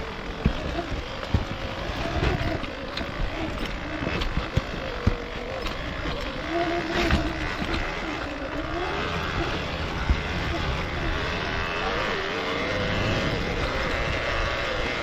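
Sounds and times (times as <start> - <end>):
knocks and rattles: 0.0 - 15.0
off-road motorcycle engine: 0.0 - 15.0.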